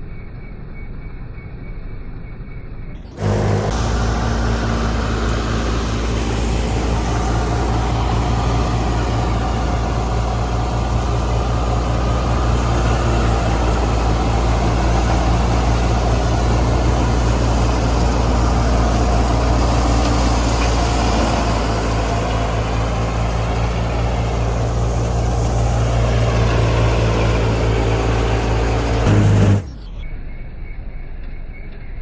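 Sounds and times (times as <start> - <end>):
combine harvester running: 3.1 - 29.9.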